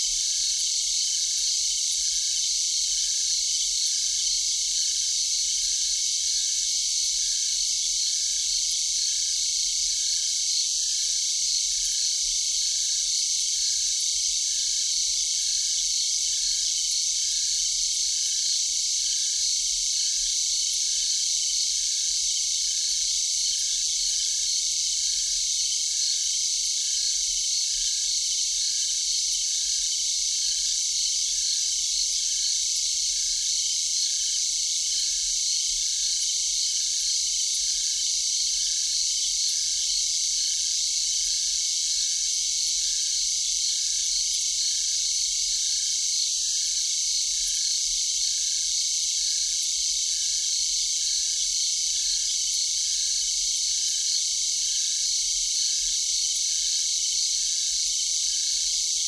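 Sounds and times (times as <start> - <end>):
low insect chirp: 0.0 - 59.0.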